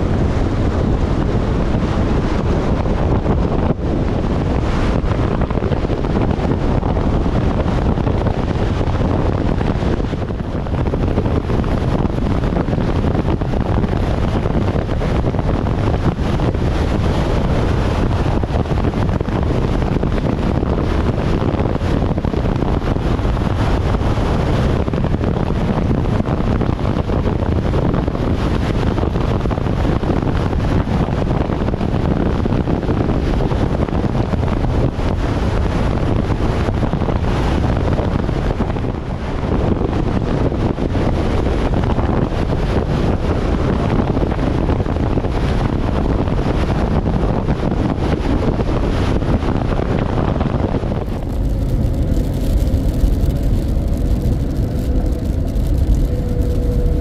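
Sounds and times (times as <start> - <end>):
loud steady rushing noise: 0.0 - 57.0
wind buffeting microphone: 0.0 - 57.0.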